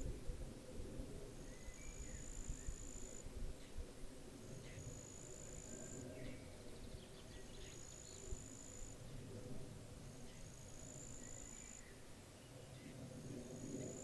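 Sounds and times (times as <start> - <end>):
low wind rumble: 0.0 - 14.0.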